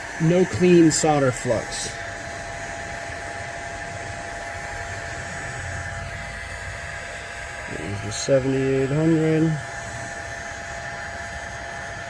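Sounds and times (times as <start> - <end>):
faint whine: 0.0 - 12.0
hot air blower hiss: 0.0 - 12.0.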